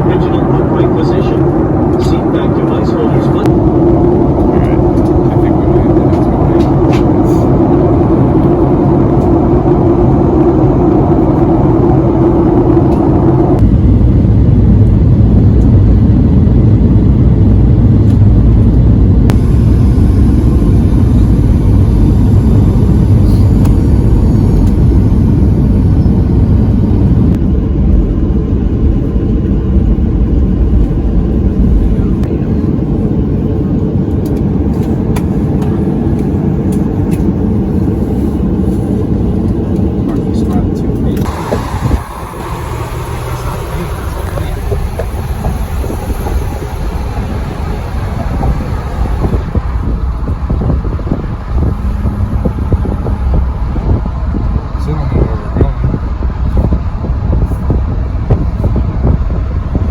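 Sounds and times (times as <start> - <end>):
midrange hum: 0.0 - 59.9
vehicle rumble: 0.0 - 59.9.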